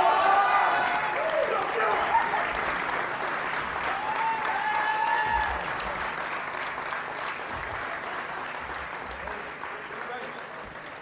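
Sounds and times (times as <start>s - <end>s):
audience clapping and cheering: 0.0s - 11.0s.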